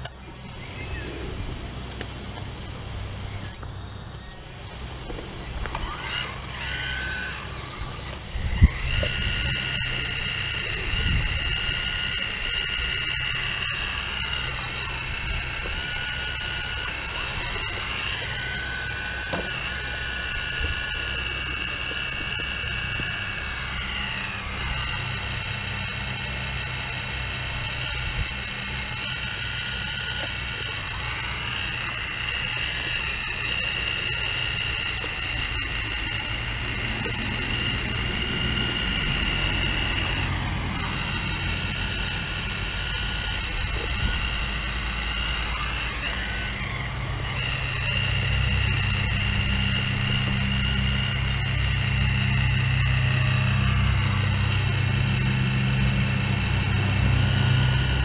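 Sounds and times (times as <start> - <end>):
diesel engine rumble: 0.0 - 58.0
high hydraulic whine: 0.0 - 58.0.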